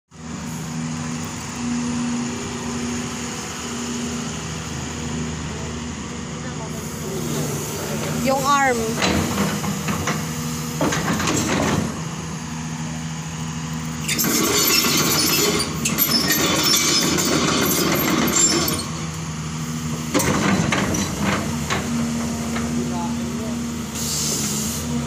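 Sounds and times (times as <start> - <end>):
excavator diesel engine running: 0.1 - 25.0.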